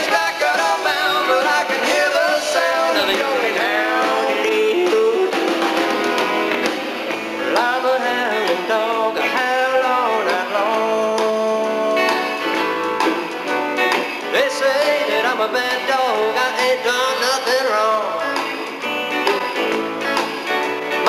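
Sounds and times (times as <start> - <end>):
country rock band playing live: 0.0 - 21.0.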